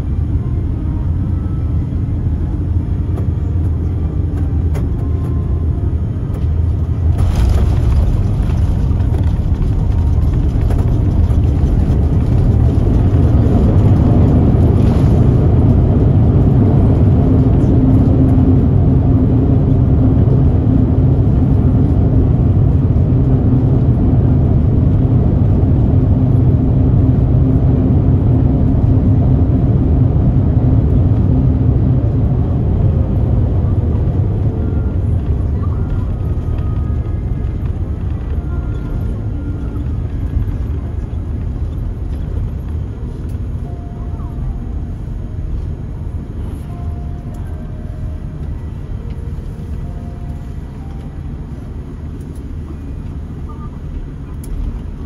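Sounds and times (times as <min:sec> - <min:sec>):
airliner engines and wheels rumbling: 0:00.0 - 0:55.0
steady hum: 0:00.0 - 0:55.0.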